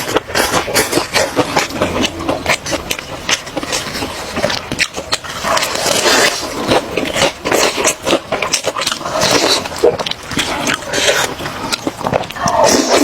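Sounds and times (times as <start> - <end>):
wet chewing with smacks: 0.0 - 13.0.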